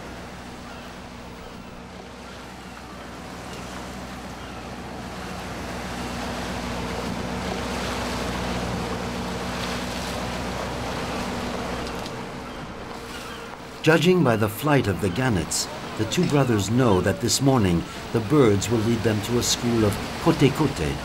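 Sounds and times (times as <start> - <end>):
boat engine running: 0.0 - 21.0
water rushing along hull: 0.0 - 21.0.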